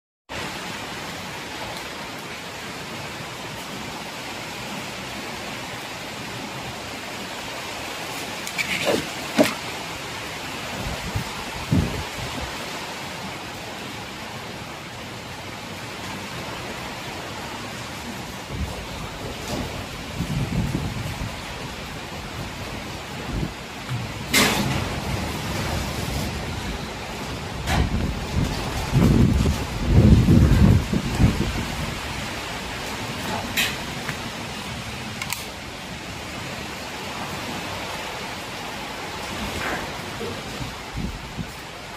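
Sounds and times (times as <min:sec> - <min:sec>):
heavy rain hissing: 0:00.3 - 0:41.9
strong wind: 0:00.4 - 0:41.9.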